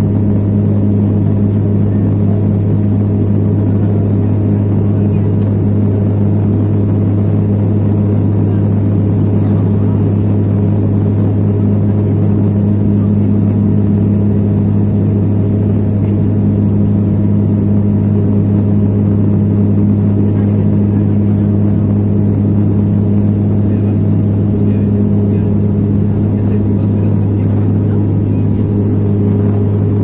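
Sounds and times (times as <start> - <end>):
airliner engine drone: 0.0 - 30.0.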